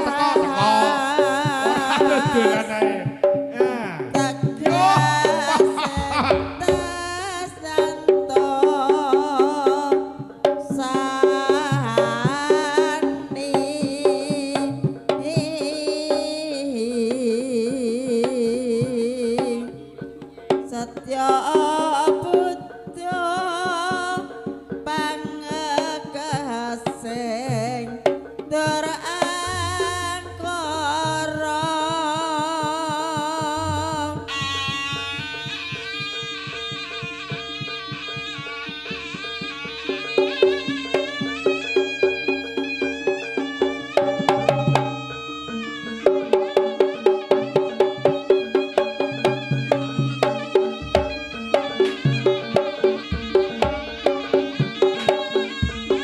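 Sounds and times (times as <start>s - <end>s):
rapid hand-drum strokes: 0.0s - 56.0s
wavering melody with vibrato: 0.0s - 56.0s.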